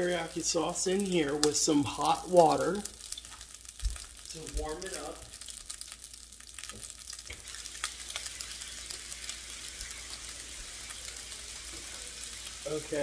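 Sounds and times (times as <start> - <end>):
sauce sizzling in saucepan: 0.0 - 13.0
small crackles: 0.0 - 13.0.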